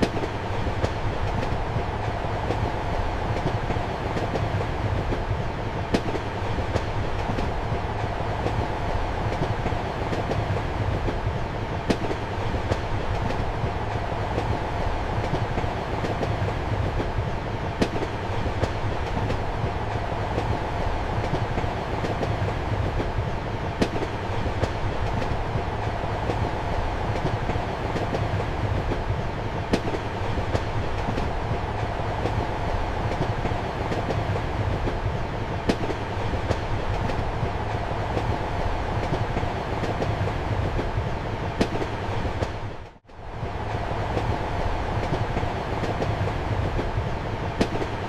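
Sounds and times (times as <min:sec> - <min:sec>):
train rumbling and rolling: 0:00.0 - 0:48.0.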